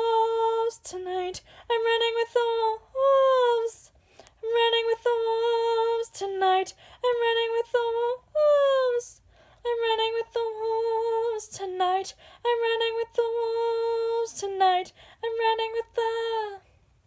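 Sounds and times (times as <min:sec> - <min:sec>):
girl singing unaccompanied: 0:00.0 - 0:16.8.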